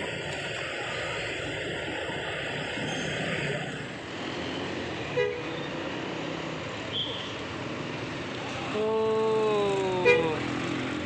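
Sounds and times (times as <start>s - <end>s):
road traffic and engine noise: 0.0s - 11.0s.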